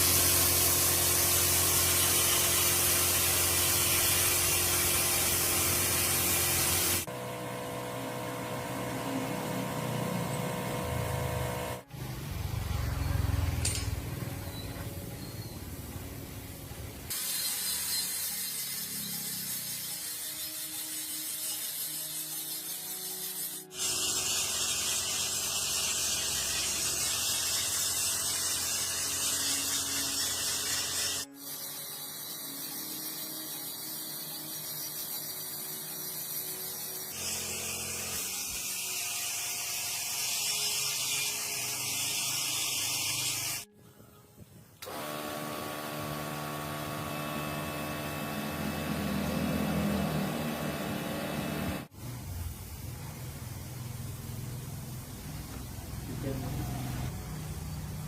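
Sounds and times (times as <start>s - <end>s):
workshop tools whirring and hissing: 0.0s - 58.0s.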